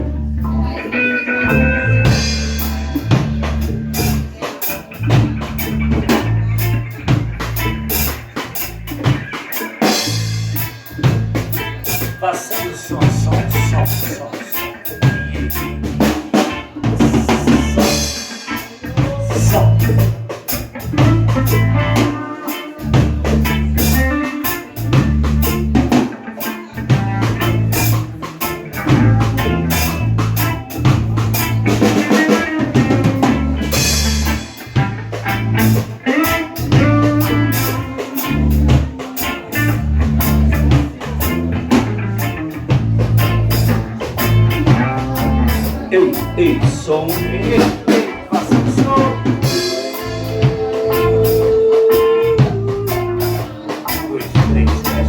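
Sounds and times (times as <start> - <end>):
heavy repeating bass line: 0.0 - 26.0, 26.6 - 55.0
drum kit with rimshots: 0.0 - 55.0
guitar playing: 0.0 - 55.0.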